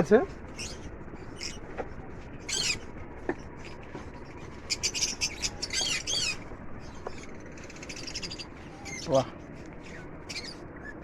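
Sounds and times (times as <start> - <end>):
lovebirds chattering squawks: 0.5 - 1.7, 2.4 - 11.0.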